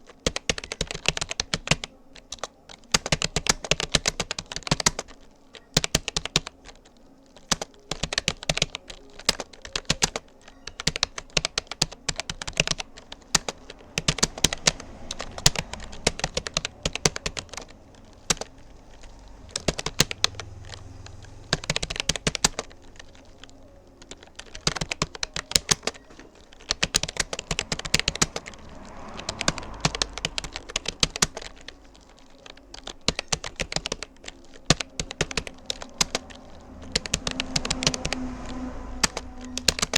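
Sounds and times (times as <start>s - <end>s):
keyboard typing: 0.0s - 39.9s.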